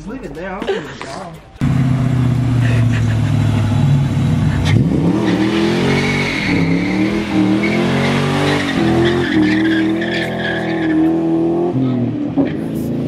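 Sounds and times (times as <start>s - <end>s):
car engine revving: 1.5s - 13.0s.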